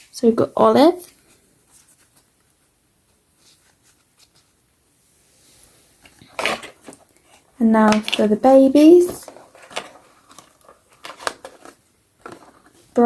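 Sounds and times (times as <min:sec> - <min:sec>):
soft rustle: 0:00.9 - 0:13.0.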